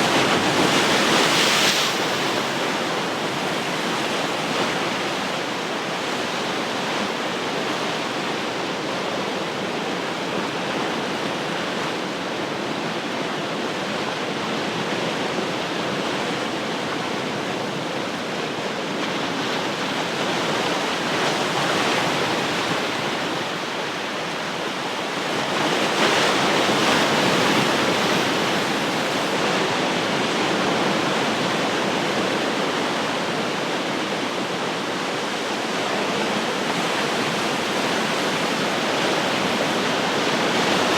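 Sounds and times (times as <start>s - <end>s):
ocean surf breaking on shore: 0.0s - 13.0s, 15.6s - 40.9s.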